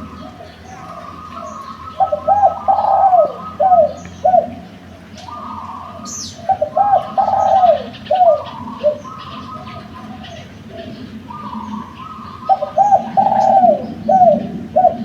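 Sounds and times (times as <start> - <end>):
dove cooing: 0.0 - 15.0
small birds chirping: 0.0 - 15.0.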